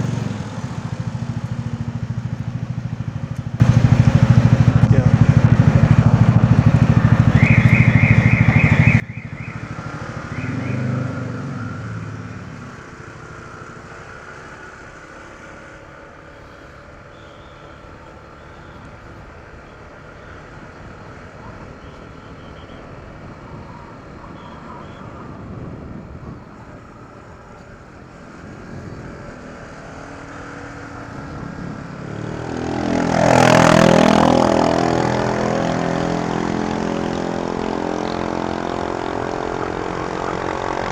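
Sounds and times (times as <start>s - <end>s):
scooter engine running: 0.0s - 11.0s, 12.8s - 40.9s
vehicle passing close: 0.0s - 16.8s, 23.0s - 40.9s
traffic noise: 0.0s - 40.9s.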